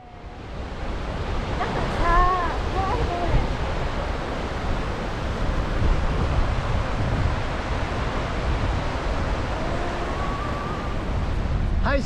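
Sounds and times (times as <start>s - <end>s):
sea surf breaking: 0.0s - 12.0s
wind rumbling on microphone: 0.0s - 12.0s.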